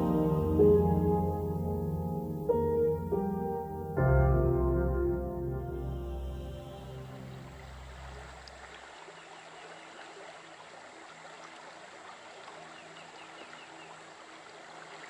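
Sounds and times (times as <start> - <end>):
faint running water: 0.0 - 15.0.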